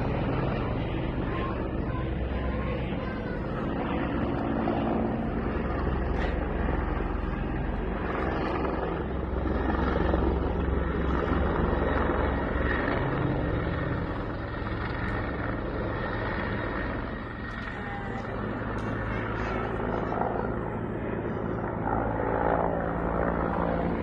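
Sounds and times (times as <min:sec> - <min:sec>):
helicopter flying: 0:00.0 - 0:24.0.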